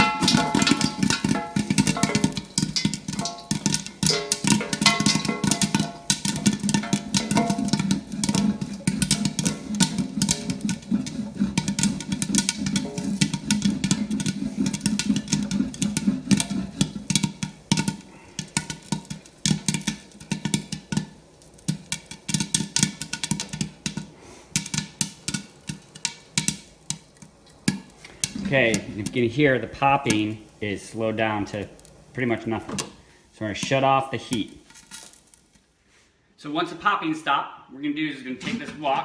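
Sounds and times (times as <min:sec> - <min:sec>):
popcorn popping in a wok: 0:00.0 - 0:35.7.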